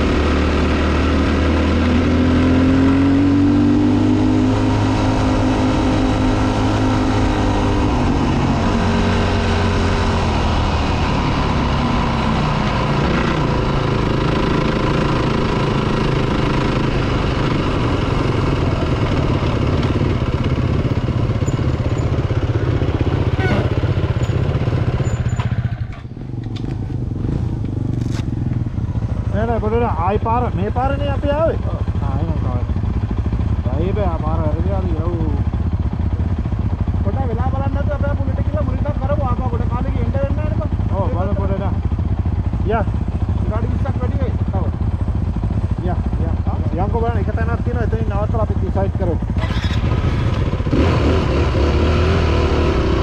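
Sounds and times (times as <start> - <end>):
dirt bike engine running: 0.0 - 53.0
wind: 0.0 - 53.0.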